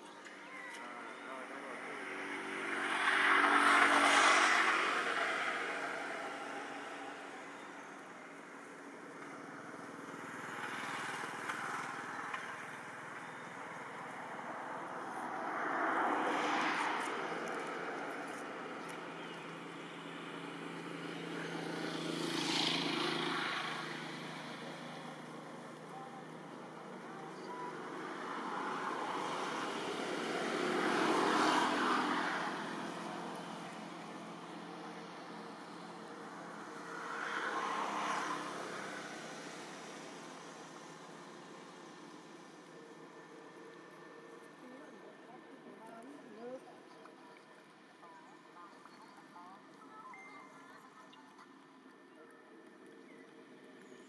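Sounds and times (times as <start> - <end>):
outdoor noise: 0.0 - 54.0
engine passing by: 0.9 - 47.2.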